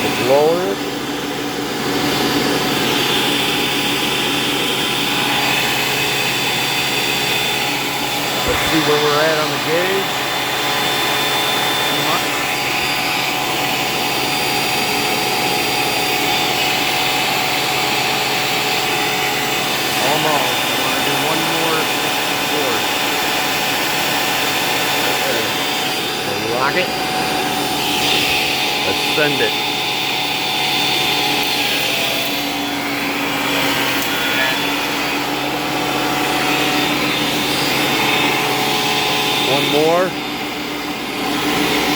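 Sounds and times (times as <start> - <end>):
thickness planer whine: 0.0 - 41.9.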